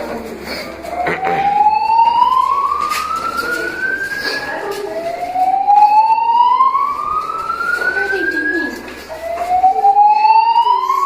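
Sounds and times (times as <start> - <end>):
fire alarm whoop tone: 0.9 - 11.0.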